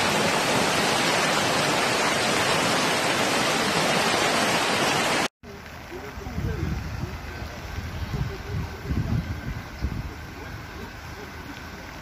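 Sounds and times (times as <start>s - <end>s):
floodwater rushing roar: 0.0s - 12.0s.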